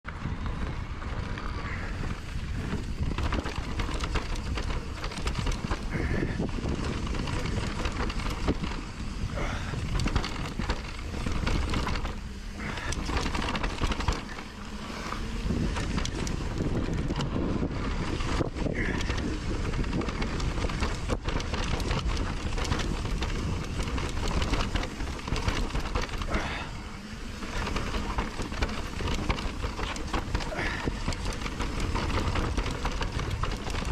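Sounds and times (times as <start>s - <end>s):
bike rattling over bumps: 0.1s - 33.9s
bike tyres on dirt trail: 0.1s - 33.9s
wind rumble on microphone: 0.1s - 33.9s.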